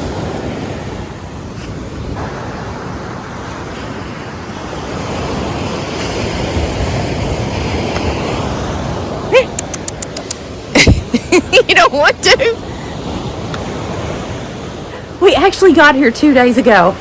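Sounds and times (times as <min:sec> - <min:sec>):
ocean surf washing onto beach: 0:00.0 - 0:17.0
wind rumbling on microphone: 0:00.0 - 0:17.0.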